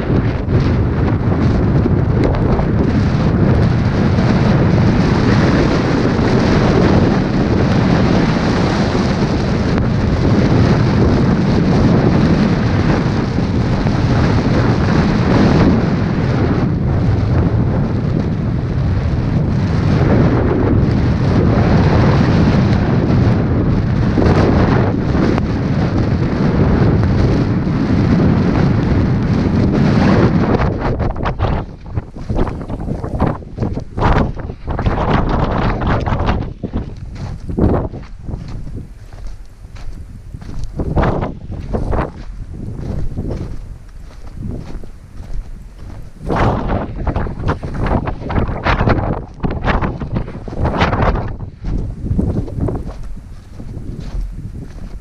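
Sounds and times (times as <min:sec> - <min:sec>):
strong wind buffeting microphone: 0:00.0 - 0:55.0.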